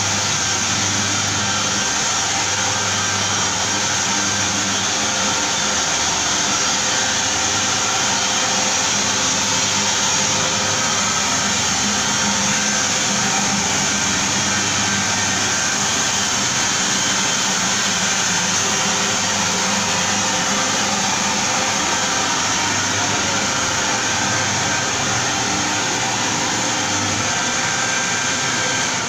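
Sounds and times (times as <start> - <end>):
floor scrubber motor drone: 0.0 - 29.0
steady high whine: 0.0 - 29.0.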